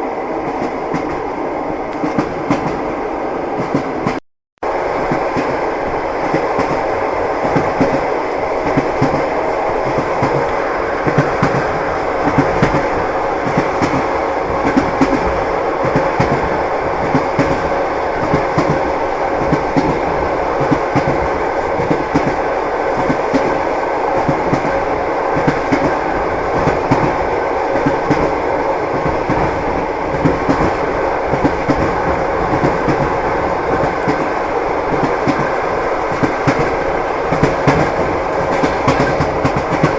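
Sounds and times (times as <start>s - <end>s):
train rumble inside carriage: 0.0s - 39.9s.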